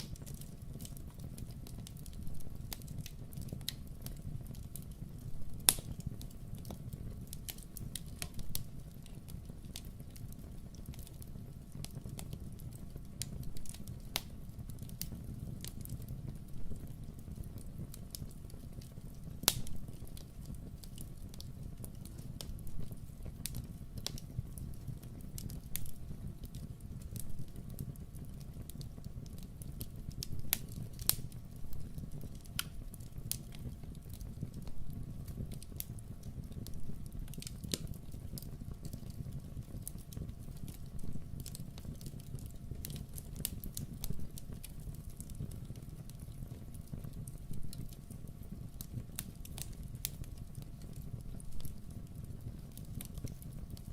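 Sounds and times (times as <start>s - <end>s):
sharp pops of fire: 0.0s - 11.1s, 11.7s - 53.9s
low fire rumble: 0.0s - 53.9s
wood fire crackling: 0.0s - 53.9s.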